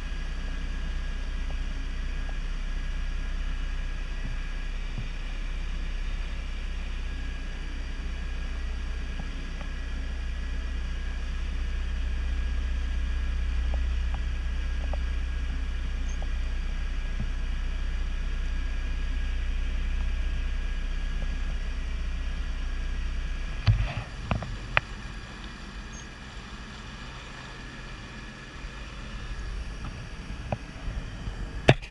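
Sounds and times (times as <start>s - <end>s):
jet ski engine drone: 0.0s - 31.9s
wind: 0.0s - 31.9s.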